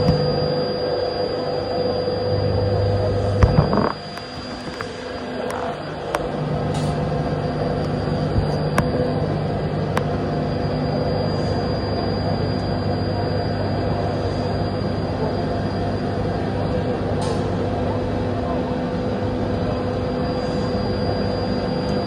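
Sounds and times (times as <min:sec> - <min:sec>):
lathe humming with high whine: 0:00.0 - 0:22.0.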